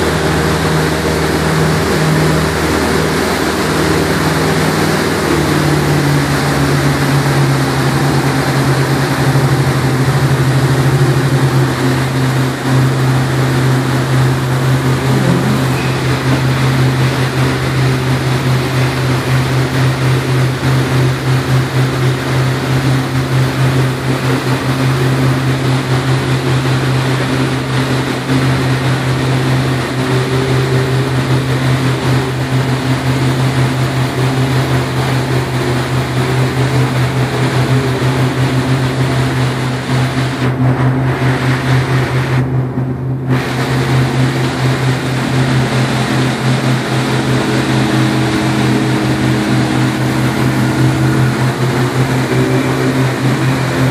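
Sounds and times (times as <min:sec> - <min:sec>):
motorboat engine drone: 0:00.0 - 0:53.9
rush of water from wake: 0:00.0 - 0:53.9.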